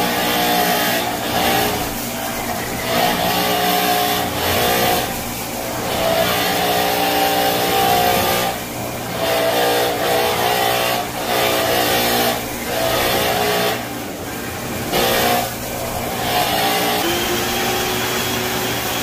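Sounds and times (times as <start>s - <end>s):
floor scrubber motor humming: 0.0s - 19.0s.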